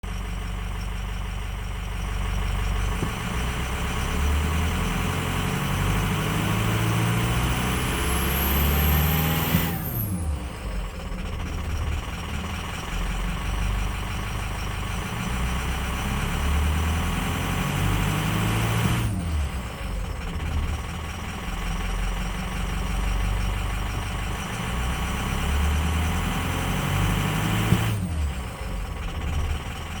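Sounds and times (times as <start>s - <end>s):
truck engine idling roughly: 0.0s - 6.4s, 9.8s - 30.0s.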